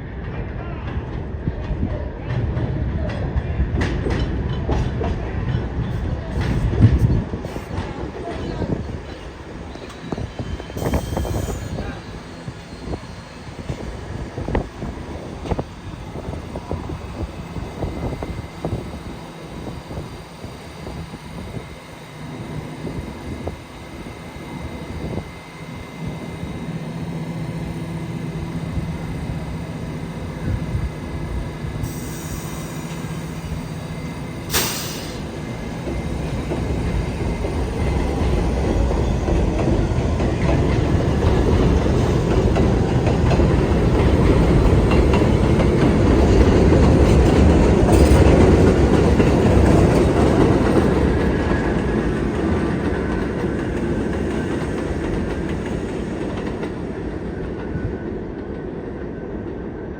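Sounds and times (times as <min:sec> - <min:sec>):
train wheels clattering over rail joints: 0:01.0 - 0:57.8.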